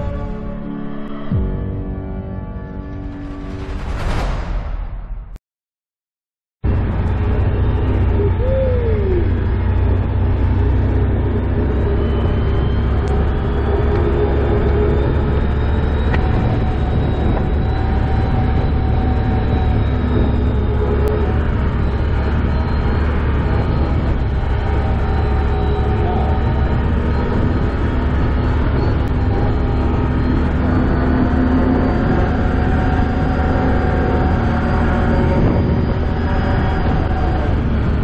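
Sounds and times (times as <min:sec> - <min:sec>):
atv engine running: 0:06.7 - 0:38.0.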